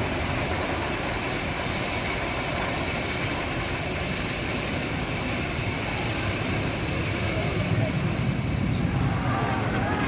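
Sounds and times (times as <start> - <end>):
roller coaster lift clattering: 0.0 - 10.0.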